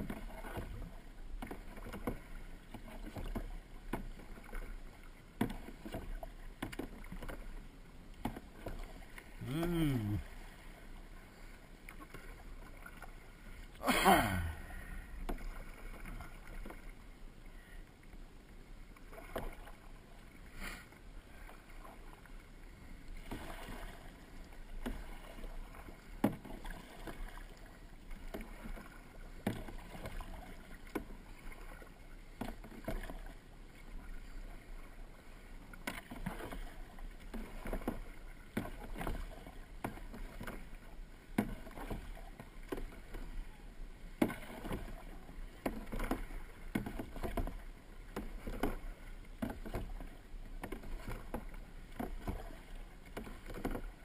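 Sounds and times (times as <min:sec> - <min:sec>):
paddle splashing in water: 0:00.0 - 0:54.0.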